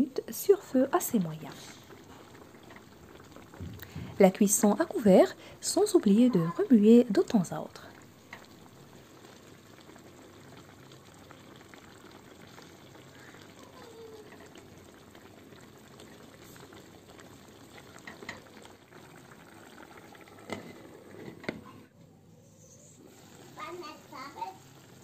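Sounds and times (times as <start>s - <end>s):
pasta boiling in a pan: 0.0s - 21.8s, 22.6s - 25.0s.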